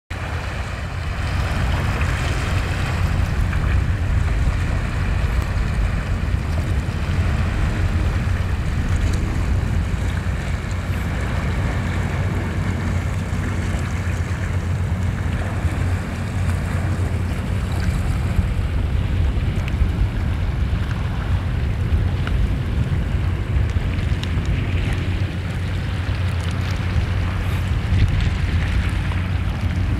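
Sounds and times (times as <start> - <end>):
sea water washing around rocks: 0.1 - 29.9
wind buffeting microphone: 0.1 - 29.9.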